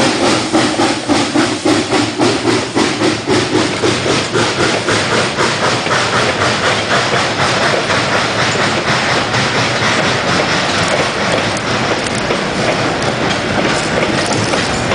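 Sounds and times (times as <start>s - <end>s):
freight train cars rolling: 0.0s - 14.9s
wheels clattering over rail joints: 0.0s - 14.9s.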